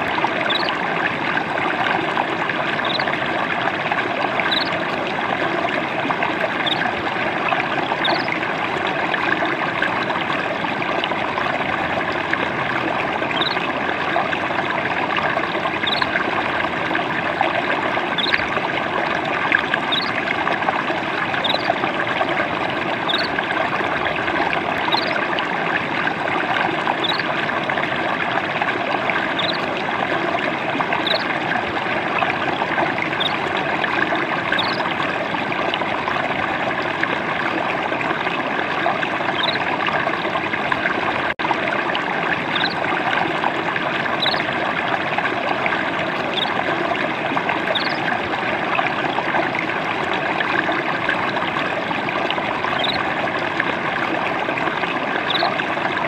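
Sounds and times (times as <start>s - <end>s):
water trickling and babbling: 0.0s - 56.0s.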